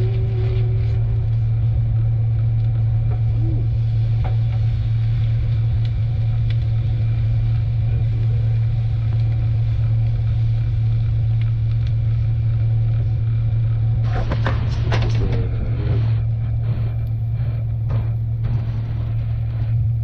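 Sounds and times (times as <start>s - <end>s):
steady low drone: 0.0s - 20.0s.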